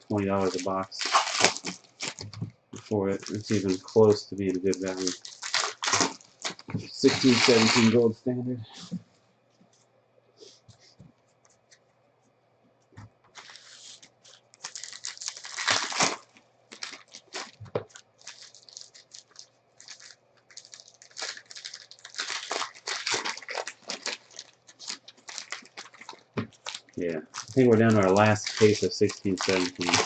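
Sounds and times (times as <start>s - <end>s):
cards rustling: 0.0s - 8.1s, 13.3s - 30.0s
wrappers tearing and crinkling: 0.0s - 8.1s, 13.4s - 30.0s.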